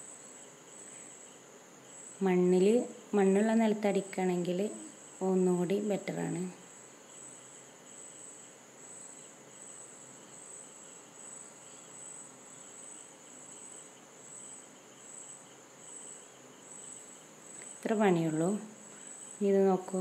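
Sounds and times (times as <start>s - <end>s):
cricket chirping: 0.0s - 20.0s
low hiss: 0.0s - 20.0s.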